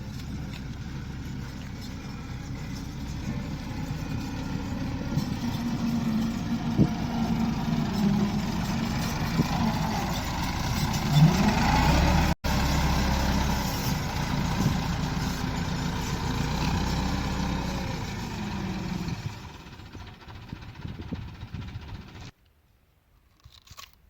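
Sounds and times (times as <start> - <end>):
heavy diesel engine running: 0.0 - 22.3.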